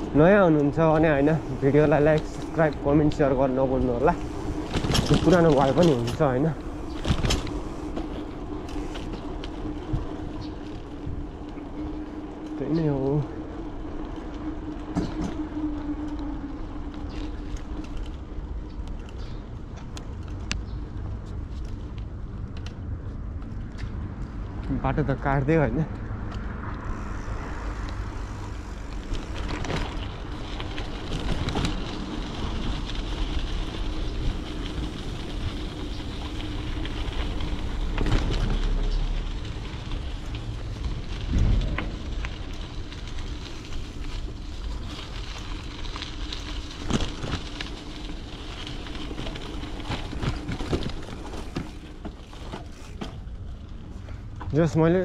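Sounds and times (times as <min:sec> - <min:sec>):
bicycle tyres on gravel: 0:00.0 - 0:55.0
bike clicks and rattles: 0:00.0 - 0:55.0
wind rumbling on microphone: 0:00.0 - 0:55.0.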